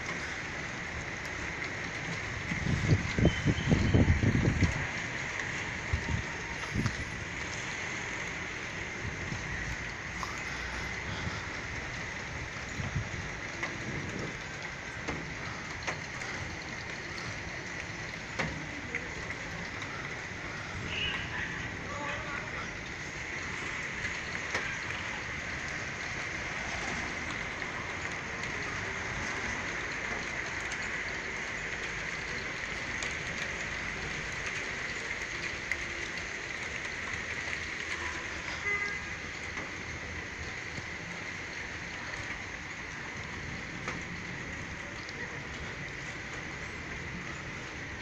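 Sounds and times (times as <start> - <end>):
raindrops ticking on surfaces: 0.0 - 48.0
steady rain: 0.0 - 48.0.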